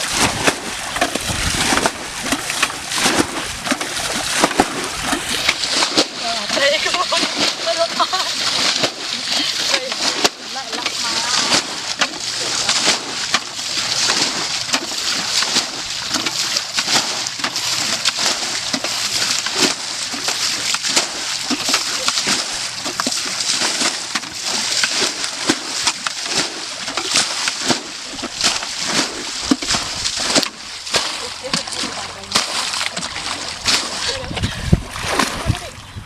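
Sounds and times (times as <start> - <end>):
water splashing by hand: 0.0 - 36.0.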